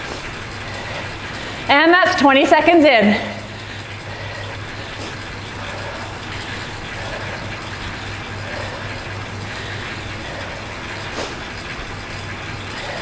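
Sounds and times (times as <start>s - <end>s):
bicycle trainer whirring: 0.0s - 13.0s
constant low hum: 0.0s - 13.0s.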